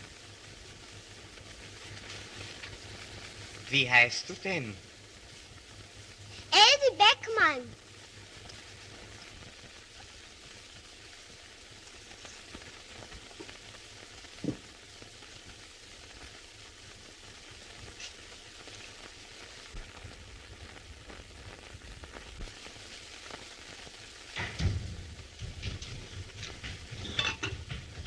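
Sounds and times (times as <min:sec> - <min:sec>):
film soundtrack hiss and crackle: 0:00.0 - 0:28.0.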